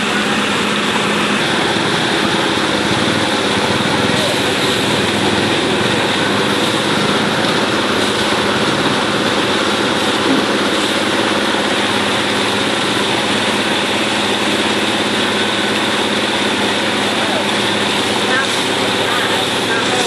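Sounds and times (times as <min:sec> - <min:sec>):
engine hum: 0:00.0 - 0:20.0
water jet splashing on pond: 0:00.0 - 0:20.0.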